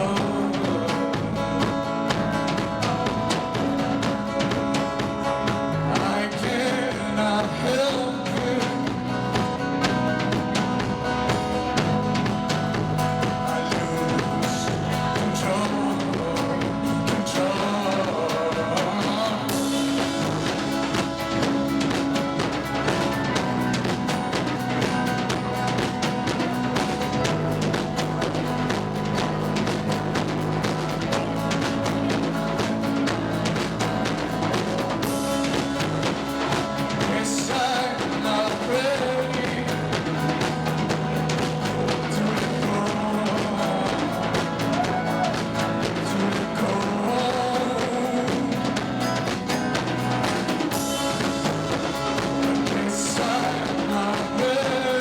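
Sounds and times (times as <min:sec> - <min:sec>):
drums beating: 0:00.0 - 0:55.0
held bass notes: 0:00.0 - 0:55.0
live rock band playing: 0:00.0 - 0:55.0.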